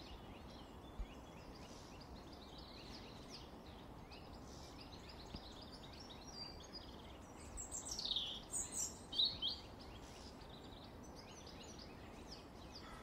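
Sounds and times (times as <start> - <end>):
low background noise: 0.0 - 13.0
songbirds chirping: 0.0 - 13.0.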